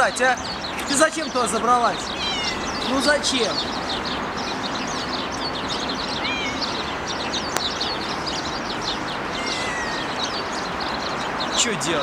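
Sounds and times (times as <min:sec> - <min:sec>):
small birds chirping: 0:00.0 - 0:12.0
steady background hiss: 0:00.0 - 0:12.0
whistled bird notes: 0:00.0 - 0:12.0.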